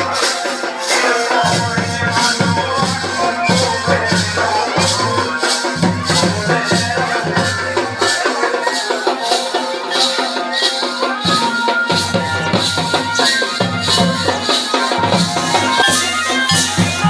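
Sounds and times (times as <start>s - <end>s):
folk song melody: 0.0s - 17.0s
steady drum beat: 0.0s - 17.0s.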